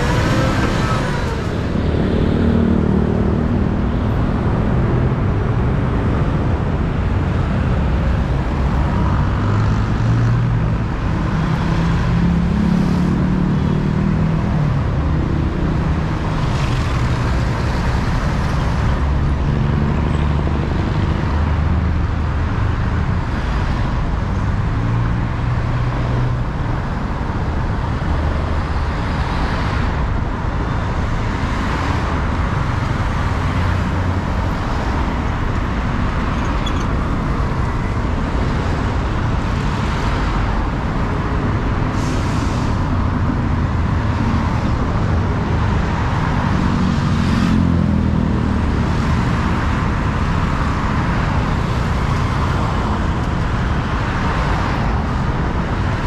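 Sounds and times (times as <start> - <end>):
road rumble: 0.0 - 56.0
surrounding car traffic: 0.0 - 56.0.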